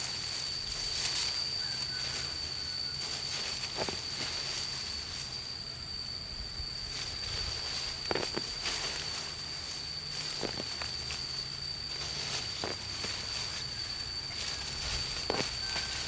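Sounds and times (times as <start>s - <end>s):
high-pitched insect call: 0.0s - 16.0s
outdoor background noise: 0.0s - 16.0s.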